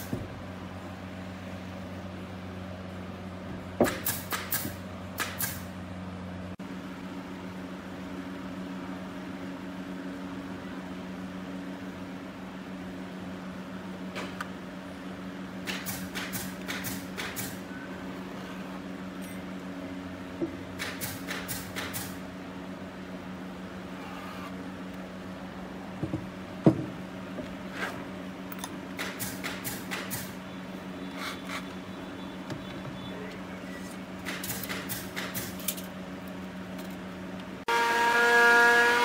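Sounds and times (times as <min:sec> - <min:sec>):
workshop machine hum: 0:00.0 - 0:39.0.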